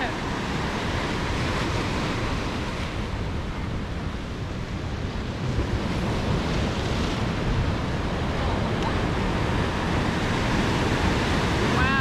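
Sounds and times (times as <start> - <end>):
seawater rushing: 0.0 - 12.0
wind buffeting microphone: 0.0 - 12.0.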